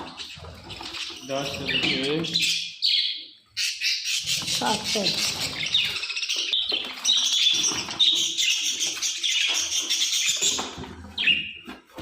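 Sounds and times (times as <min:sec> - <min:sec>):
parrots chirping and chattering: 0:00.0 - 0:12.0.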